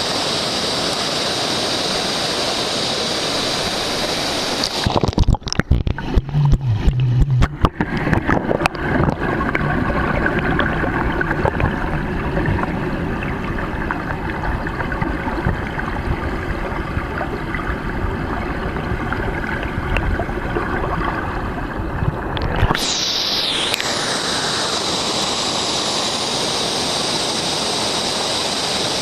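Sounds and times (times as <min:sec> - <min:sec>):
waterfall rushing: 0:00.0 - 0:18.8, 0:22.6 - 0:29.0.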